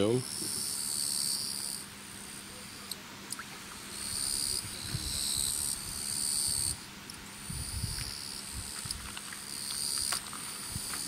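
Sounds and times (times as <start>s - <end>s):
insects buzzy trill: 0.0s - 11.0s.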